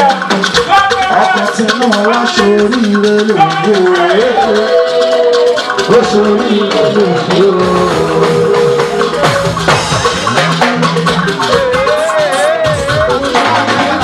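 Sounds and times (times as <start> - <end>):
fast shaker rhythm: 0.0 - 14.0
sliding melody line: 0.0 - 14.0.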